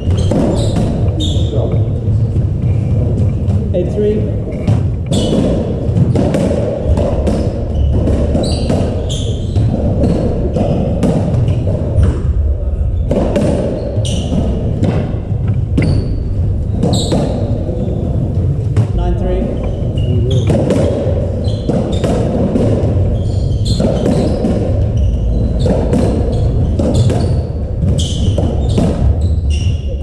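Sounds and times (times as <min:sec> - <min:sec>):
shoes squeaking on wooden floor: 0:00.0 - 0:12.2, 0:13.0 - 0:30.0.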